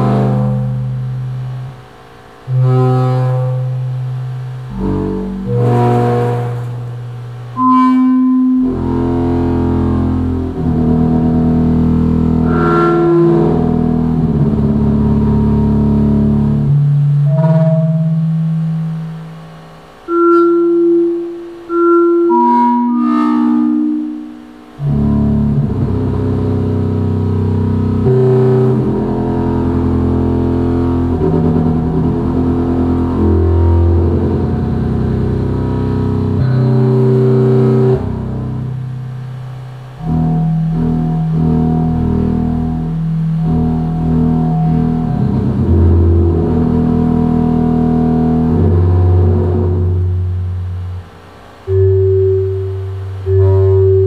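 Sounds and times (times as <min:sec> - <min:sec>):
synthesizer low notes: 0:00.0 - 0:54.0.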